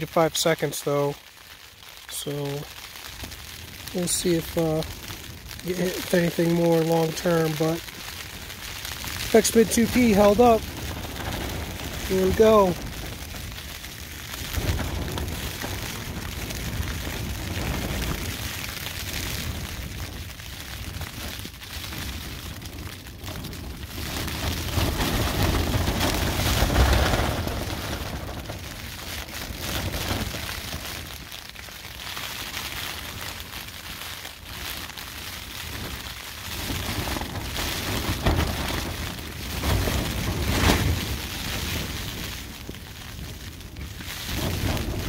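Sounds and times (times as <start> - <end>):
low wind rumble on microphone: 0.0 - 45.0
tent fabric flapping in wind: 0.0 - 45.0.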